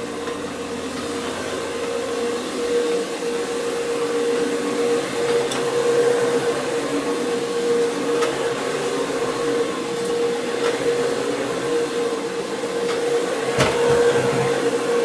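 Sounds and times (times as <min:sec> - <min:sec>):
carpet cleaner motor whining: 0:00.0 - 0:15.0.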